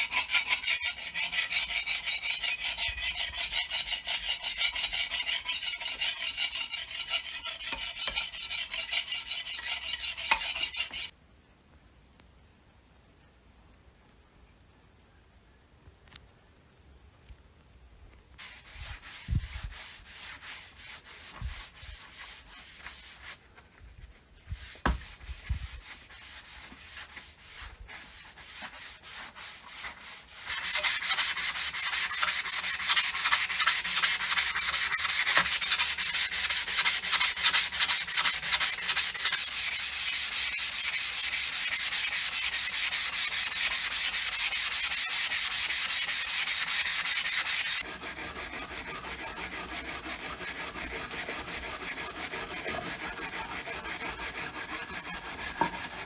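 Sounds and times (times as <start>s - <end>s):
rapid sanding rubbing: 0.0s - 11.1s, 18.4s - 23.4s, 24.6s - 56.0s.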